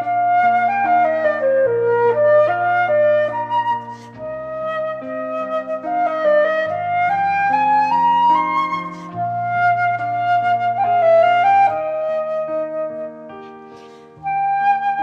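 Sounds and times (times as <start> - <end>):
flute-like melody: 0.0 - 15.0.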